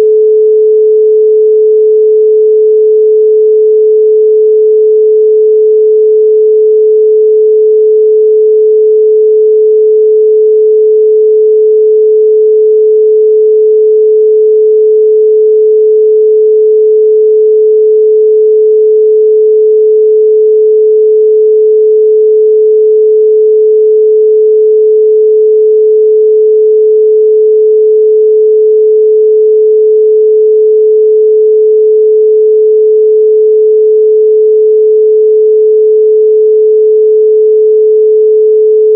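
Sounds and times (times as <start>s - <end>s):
pure sine tone: 0.0s - 38.9s.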